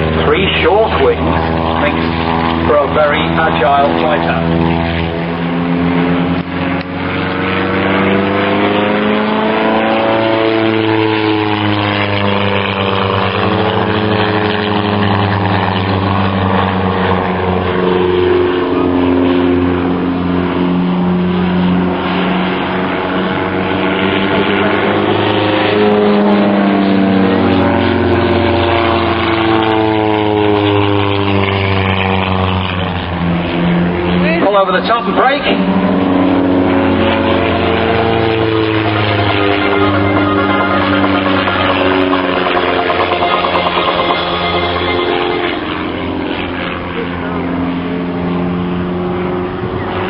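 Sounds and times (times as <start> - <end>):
propeller plane engine drone: 0.0 - 50.0.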